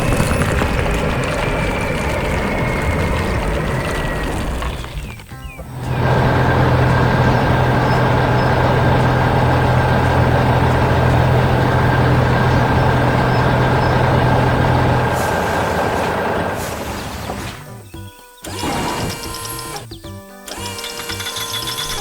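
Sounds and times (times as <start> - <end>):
heavy vehicle engine running: 0.0 - 17.8.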